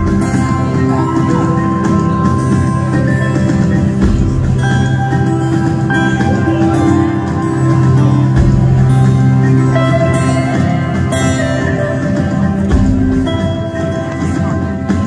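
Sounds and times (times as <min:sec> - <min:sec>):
live rock band instrumental: 0:00.0 - 0:15.0.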